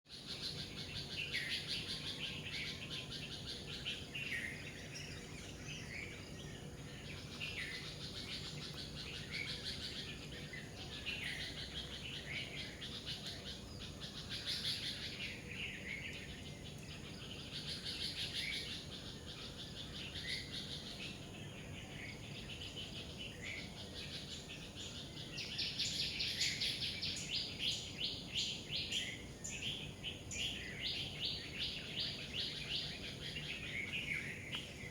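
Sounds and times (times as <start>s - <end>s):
birds singing and chirping: 0.1s - 34.9s.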